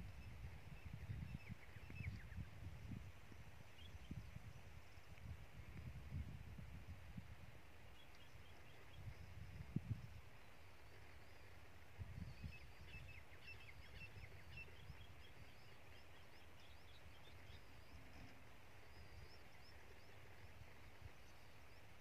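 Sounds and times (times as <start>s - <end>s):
small birds chirping: 0.0s - 5.3s, 7.8s - 22.0s
low wind rumble: 0.0s - 22.0s.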